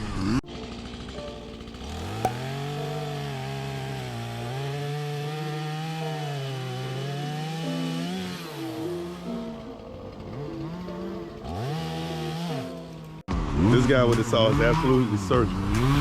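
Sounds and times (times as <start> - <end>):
chainsaw cutting wood: 0.0 - 13.2, 14.3 - 16.0.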